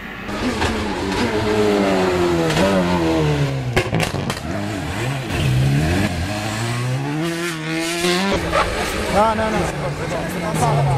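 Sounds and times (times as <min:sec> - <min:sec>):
rally car engine: 0:00.0 - 0:10.9.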